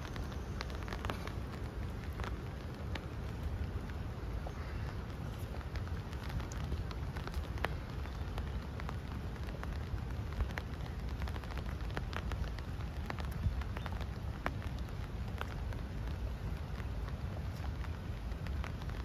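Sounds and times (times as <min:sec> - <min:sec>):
light irregular ticks: 0:00.0 - 0:19.0.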